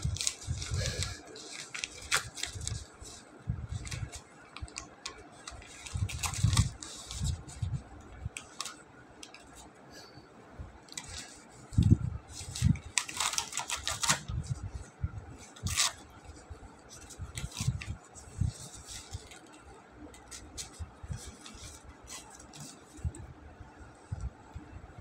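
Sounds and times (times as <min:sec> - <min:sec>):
paper crinkling and tearing: 0:00.0 - 0:09.6, 0:10.9 - 0:23.2.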